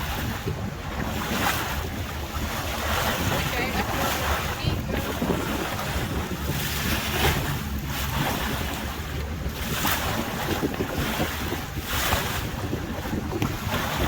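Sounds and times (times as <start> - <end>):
boat engine rumble: 0.0 - 14.0
water rushing at hull: 0.0 - 14.0
wind buffeting microphone: 0.0 - 14.0.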